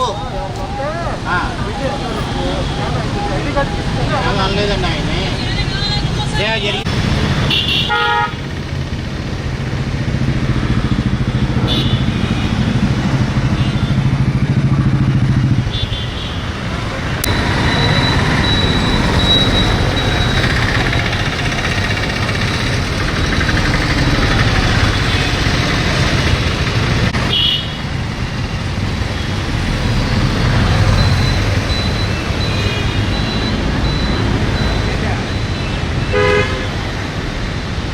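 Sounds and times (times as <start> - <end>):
motorcycle engines passing: 0.0 - 37.9
road traffic: 0.0 - 37.9.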